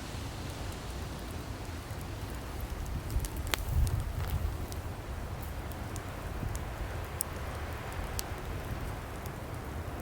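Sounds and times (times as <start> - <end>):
wood fire hissing and crackling: 0.0 - 10.0.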